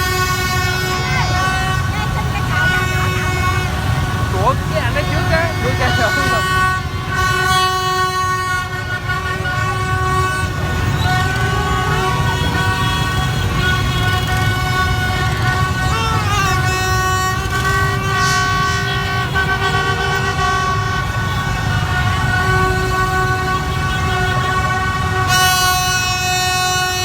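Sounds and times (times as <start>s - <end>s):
horns blaring: 0.0s - 27.0s
motorbike engines rumbling: 0.0s - 27.0s.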